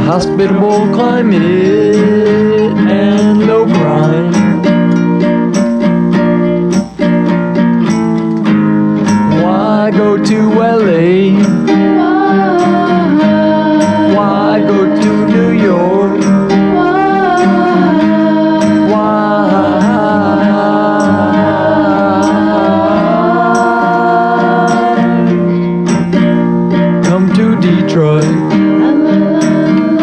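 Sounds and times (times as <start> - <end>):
pop song with guitar and drums: 0.0 - 30.0.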